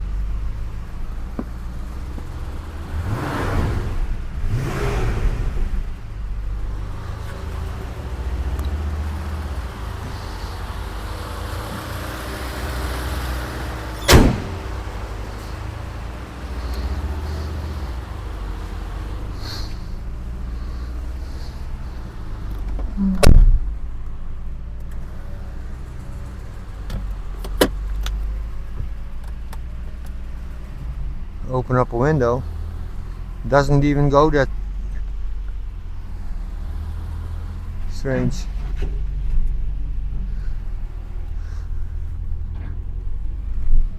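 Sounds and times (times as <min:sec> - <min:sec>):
low exhaust rumble: 0:00.0 - 0:43.9.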